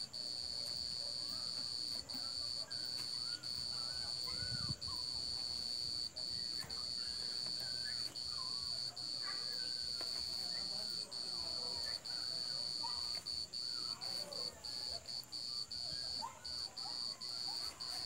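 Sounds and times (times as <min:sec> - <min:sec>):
shrill drone of night insects: 0:00.0 - 0:18.0.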